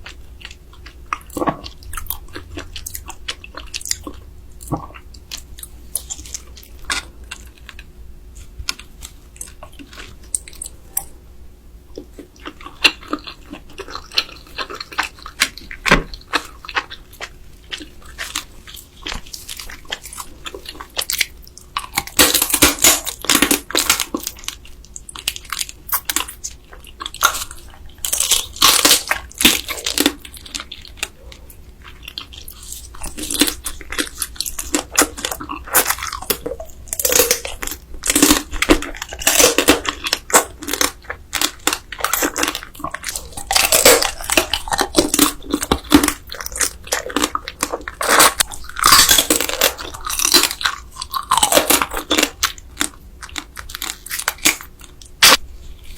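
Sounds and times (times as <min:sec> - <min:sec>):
crunching and wet chewing: 0:00.0 - 0:11.2, 0:11.8 - 0:55.9.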